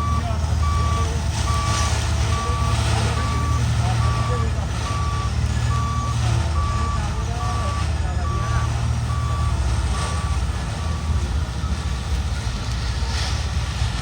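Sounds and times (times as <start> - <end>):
reversing alarm beeps: 0.0 - 11.2
low engine rumble: 0.0 - 14.0.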